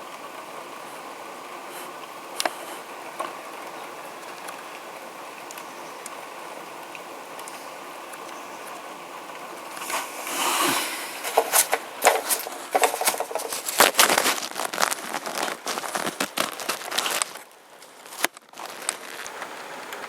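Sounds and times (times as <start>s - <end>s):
crackling and rustling close by: 0.0s - 20.0s
heavy rainfall hiss: 0.0s - 20.0s.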